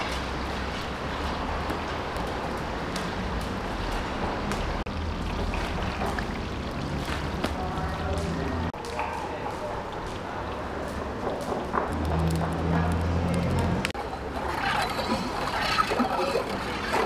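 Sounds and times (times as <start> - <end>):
busy cooking hall rushing noise: 0.0 - 17.0.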